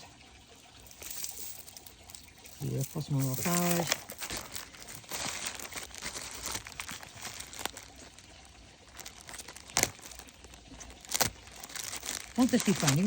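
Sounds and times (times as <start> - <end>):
plastic bags crinkling: 0.7 - 13.0
beads ticking: 0.8 - 8.3, 8.9 - 13.0.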